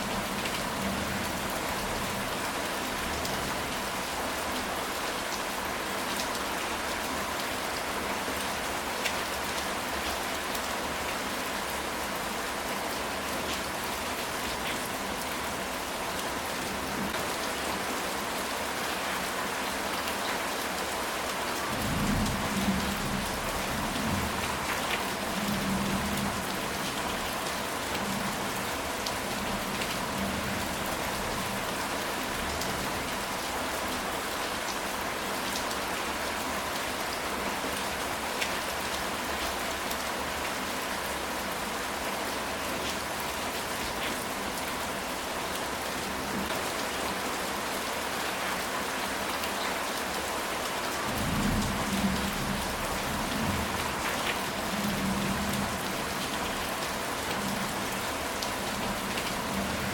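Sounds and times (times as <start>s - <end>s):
rain on a tile roof: 0.0s - 59.9s.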